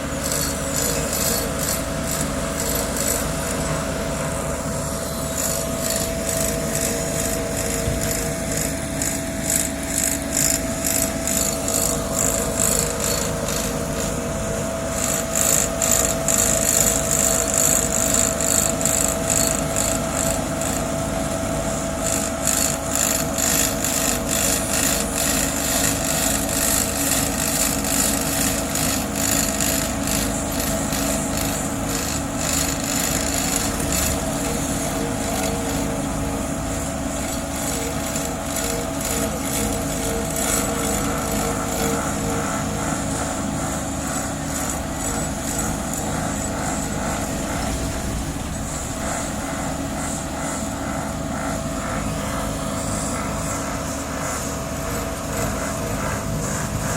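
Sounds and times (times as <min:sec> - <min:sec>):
diesel paving machinery running: 0:00.0 - 0:56.9.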